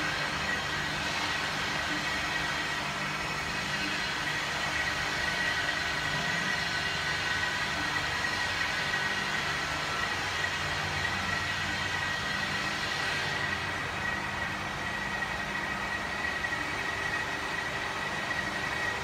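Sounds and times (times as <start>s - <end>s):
mixer motor hum with whine: 0.0s - 19.0s.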